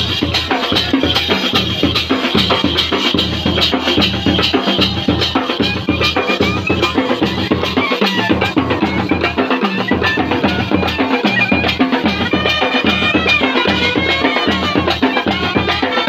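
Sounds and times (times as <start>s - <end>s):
bass drums and snare drums: 0.0s - 16.0s
trumpets playing a tune: 0.0s - 16.0s.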